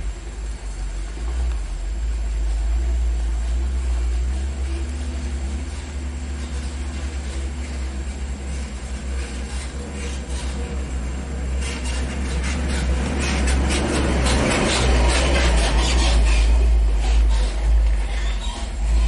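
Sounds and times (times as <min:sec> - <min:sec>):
road noise: 0:00.0 - 0:19.0
truck engine rumbling: 0:00.0 - 0:19.0.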